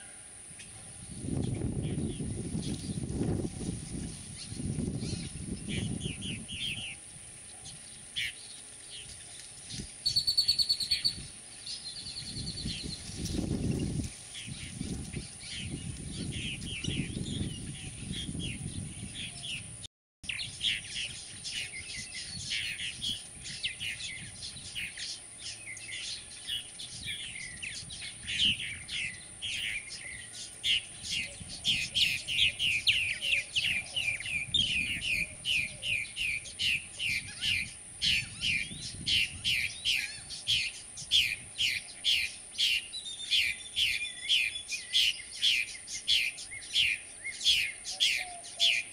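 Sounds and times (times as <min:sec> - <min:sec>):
nestlings begging chirps: 0:07.7 - 0:19.7, 0:20.3 - 0:48.9.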